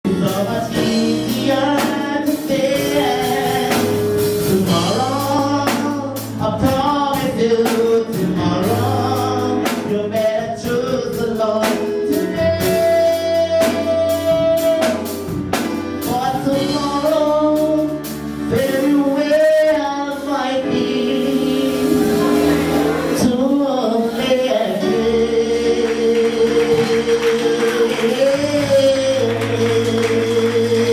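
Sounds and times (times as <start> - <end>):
instrumental backing with bass: 0.0 - 30.9
man singing into microphone: 0.0 - 30.9.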